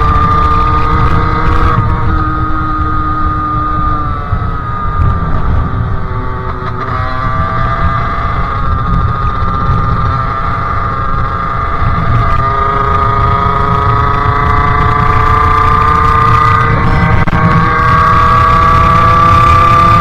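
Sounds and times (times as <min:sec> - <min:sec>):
two-stroke engine accelerating: 0:00.0 - 0:20.0.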